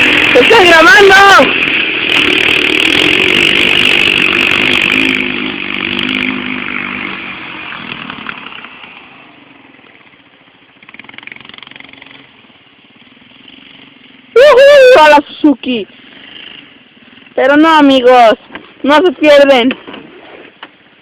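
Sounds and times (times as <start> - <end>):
motorcycle engine running: 0.0 - 19.9
faint engine: 0.0 - 21.0.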